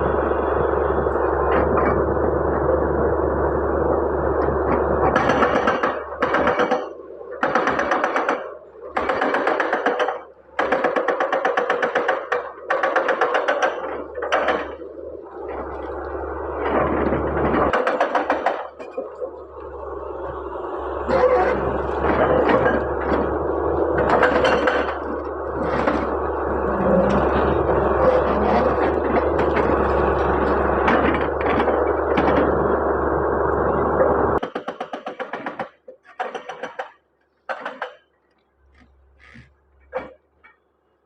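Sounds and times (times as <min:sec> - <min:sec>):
excavator engine running: 0:00.0 - 0:35.6.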